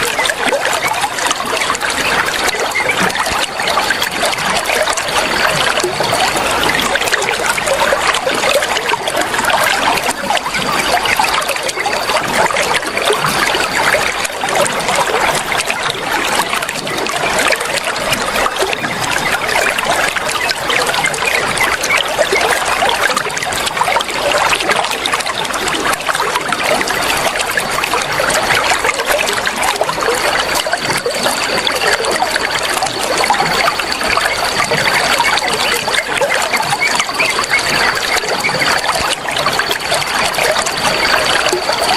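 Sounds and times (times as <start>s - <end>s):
water trickling: 0.0s - 41.9s.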